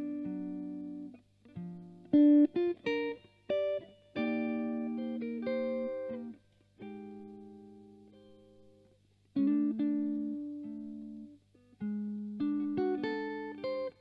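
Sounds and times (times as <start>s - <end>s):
faint steady amp hum: 0.0s - 14.0s
jazz electric guitar chords: 0.0s - 14.0s.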